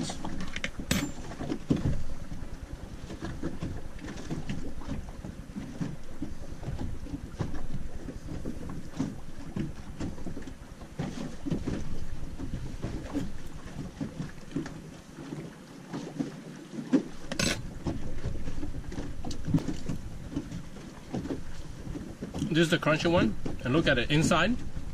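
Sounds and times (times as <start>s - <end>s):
water lapping against boat hull: 0.0s - 24.9s.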